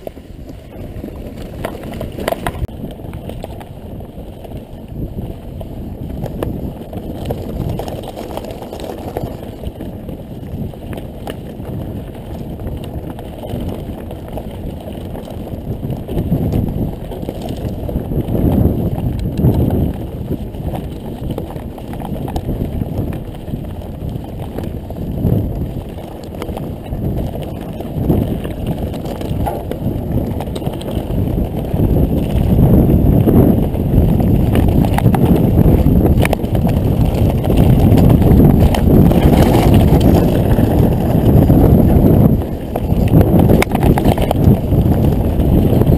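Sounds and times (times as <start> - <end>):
bike rattling over bumps: 0.0 - 45.9
mountain bike rumbling on trail: 0.0 - 45.9.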